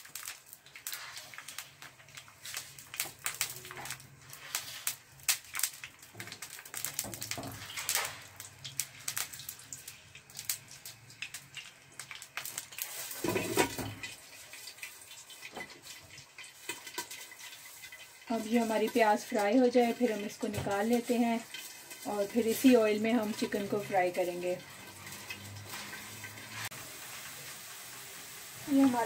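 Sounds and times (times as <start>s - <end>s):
onions frying in oil: 0.0s - 29.0s.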